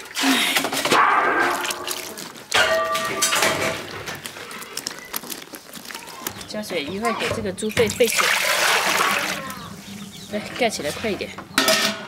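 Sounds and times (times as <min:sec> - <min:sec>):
hands squelching meat in water: 0:00.0 - 0:10.0.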